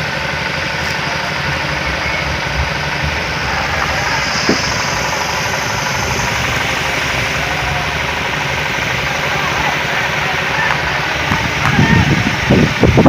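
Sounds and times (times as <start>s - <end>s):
rain hissing: 0.0s - 13.0s
uneven low rumble: 0.0s - 13.0s.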